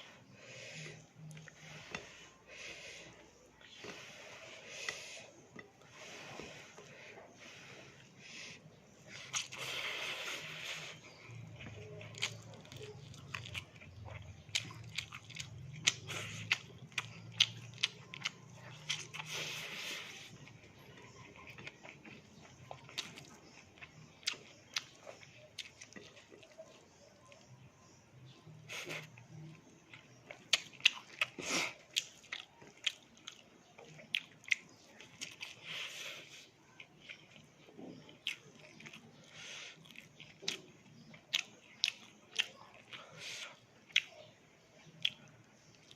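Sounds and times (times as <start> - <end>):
crunching of fried food: 7.7 - 45.9.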